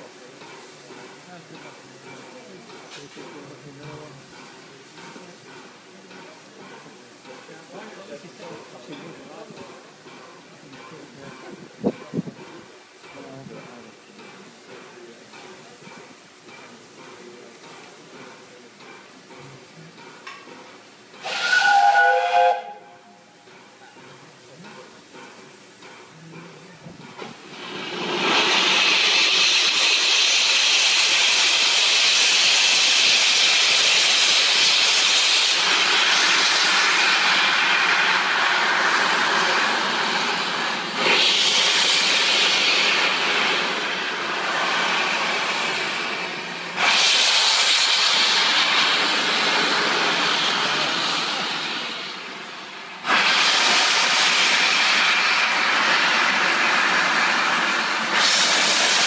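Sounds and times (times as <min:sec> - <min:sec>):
steam locomotive hissing steam: 0:00.0 - 0:59.0.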